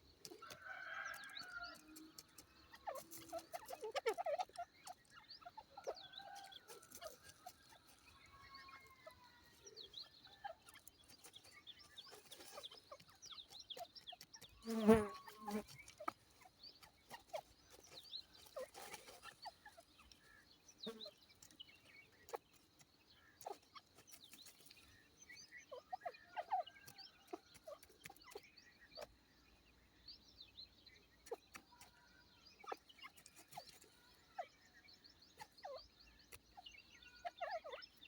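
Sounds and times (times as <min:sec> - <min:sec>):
birds making short calls and clicks: 0:00.0 - 0:38.0.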